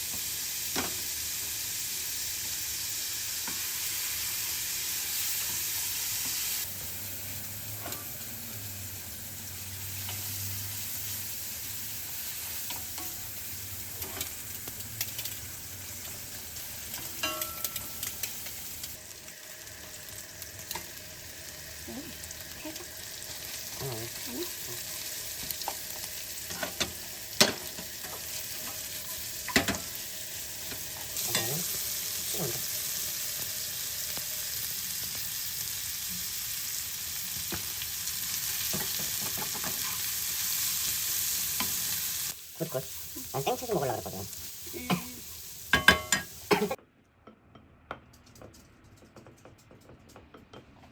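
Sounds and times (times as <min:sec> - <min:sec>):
food sizzling in a pan: 0:00.0 - 0:46.8.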